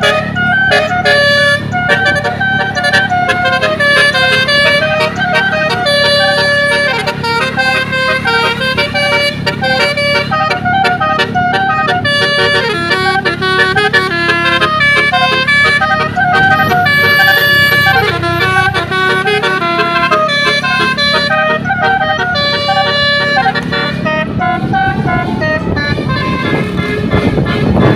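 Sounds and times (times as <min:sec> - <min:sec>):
multi-tone air horns melody: 0:00.0 - 0:27.9.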